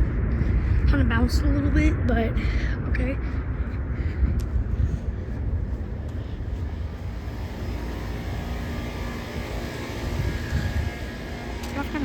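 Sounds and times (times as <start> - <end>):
faint steady whine: 0.0 - 12.0
jet engines rumbling: 0.0 - 12.0.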